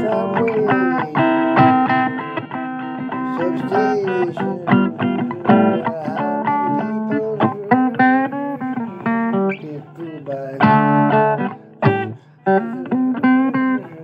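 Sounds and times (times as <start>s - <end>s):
plucked guitar runs: 0.0s - 14.0s.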